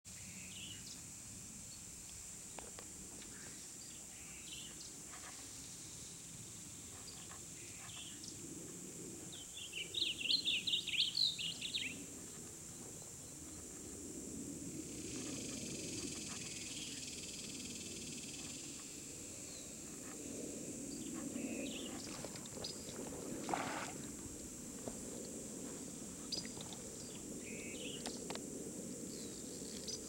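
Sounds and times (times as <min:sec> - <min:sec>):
steady high hiss: 0:00.1 - 0:30.0.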